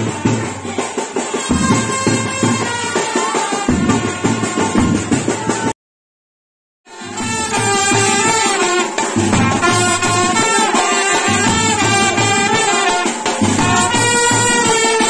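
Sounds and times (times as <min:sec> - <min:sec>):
brass melody: 0:00.0 - 0:05.2, 0:06.9 - 0:15.0
steady drum beat: 0:00.0 - 0:05.7, 0:06.9 - 0:15.0.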